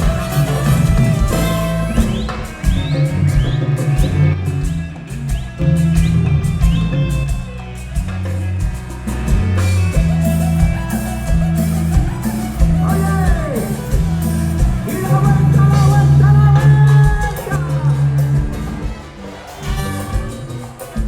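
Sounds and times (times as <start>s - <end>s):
latin dance band playing: 0.0s - 21.0s.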